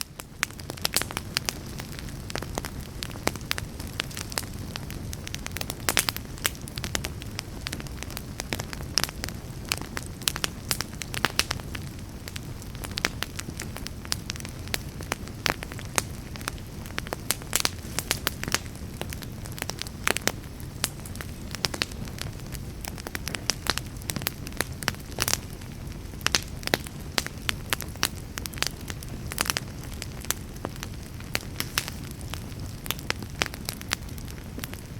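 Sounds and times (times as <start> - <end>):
fire pops and crackles: 0.0 - 34.9
low rumble of flames: 0.0 - 34.9.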